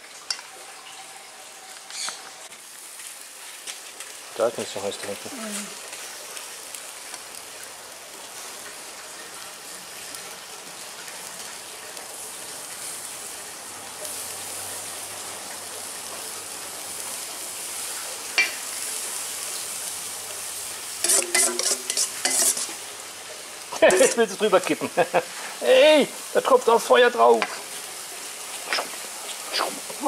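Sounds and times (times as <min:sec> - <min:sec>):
meat sizzling on a grill: 0:00.0 - 0:30.0.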